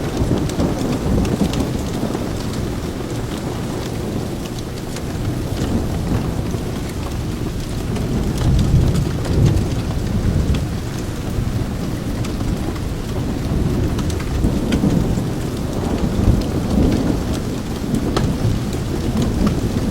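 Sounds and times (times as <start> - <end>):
heavy rain: 0.0 - 19.9.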